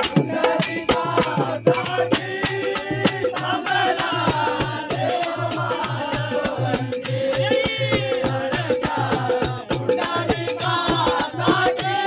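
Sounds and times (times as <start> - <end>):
fast drum beat: 0.0 - 12.0
jingling metal percussion: 0.0 - 12.0.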